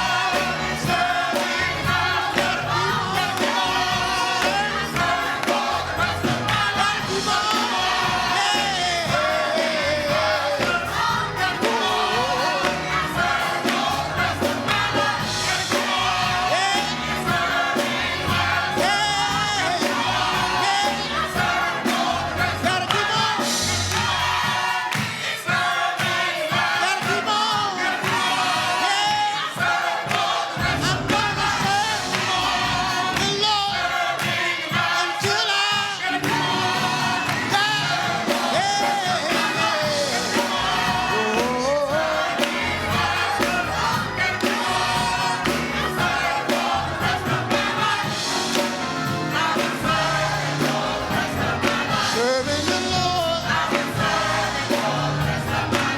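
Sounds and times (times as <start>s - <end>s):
choir singing gospel song: 0.0s - 55.9s
instrumental accompaniment with beat: 0.0s - 55.9s.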